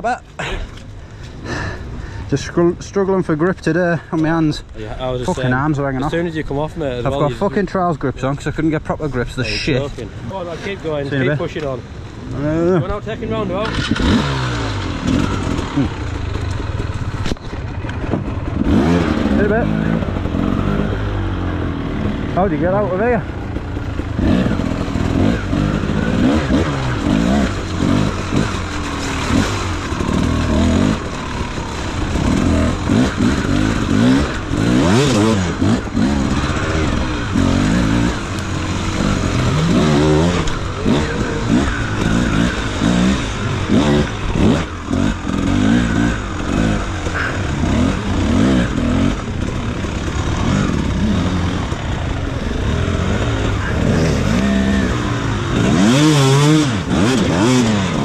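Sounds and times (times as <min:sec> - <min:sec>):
motorcycle engine revving: 0:01.3 - 0:58.0.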